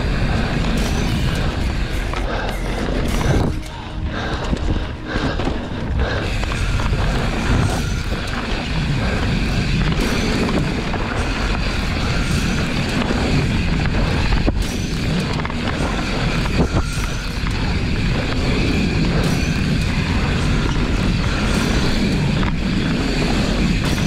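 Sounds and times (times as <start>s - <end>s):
bike tyres rumbling on dirt: 0.0s - 3.6s, 5.1s - 24.0s
bike rattling: 0.0s - 24.0s.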